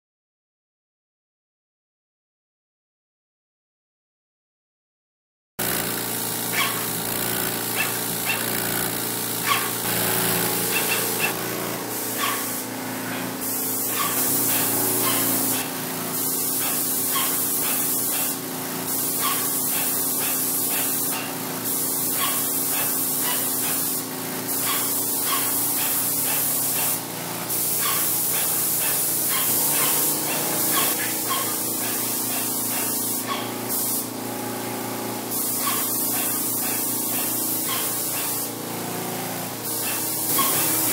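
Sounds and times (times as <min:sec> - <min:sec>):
paint sprayer hissing: 0:05.6 - 0:40.9.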